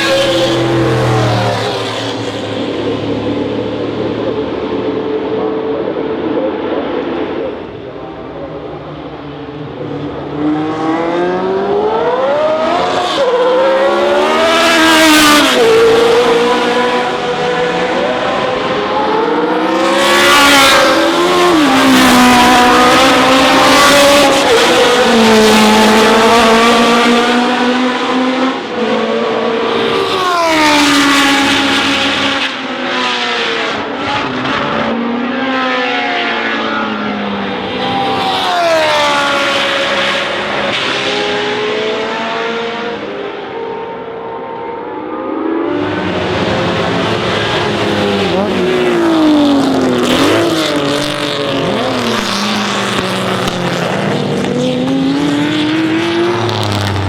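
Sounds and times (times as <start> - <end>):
racing car engines at full throttle: 0.0 - 57.0.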